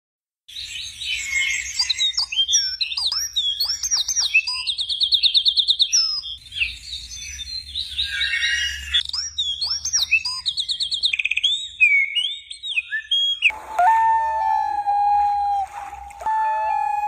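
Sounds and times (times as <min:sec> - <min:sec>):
songbirds singing: 0:00.5 - 0:17.0.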